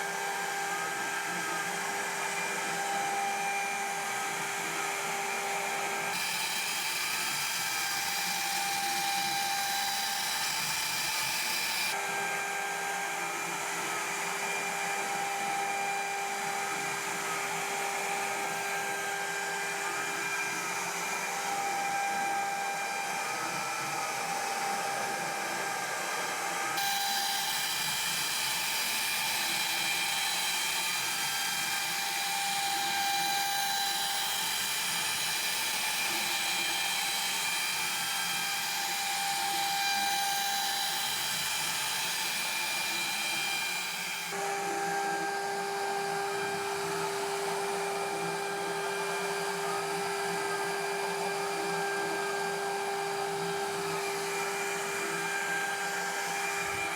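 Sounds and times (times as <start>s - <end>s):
milling machine spindle whining: 0.1s - 56.9s.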